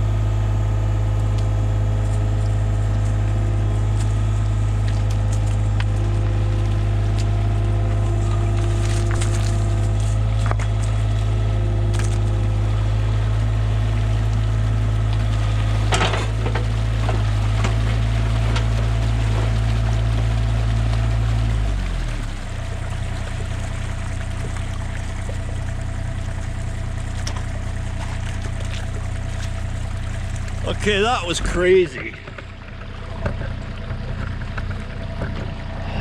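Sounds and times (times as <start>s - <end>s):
excavator diesel engine: 0.0s - 36.0s
water pouring: 2.2s - 12.9s, 13.5s - 34.0s.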